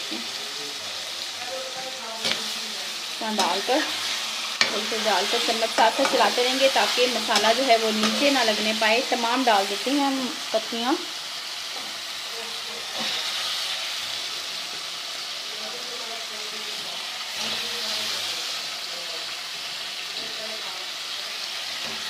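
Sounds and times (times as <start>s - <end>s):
potatoes sizzling in a pan: 0.0s - 22.0s.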